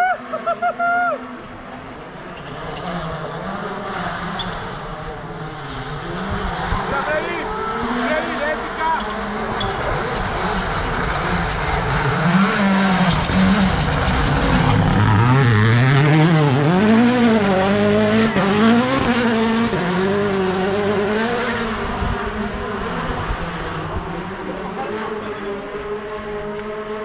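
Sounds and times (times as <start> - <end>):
rally car engine revving: 1.2 - 27.0.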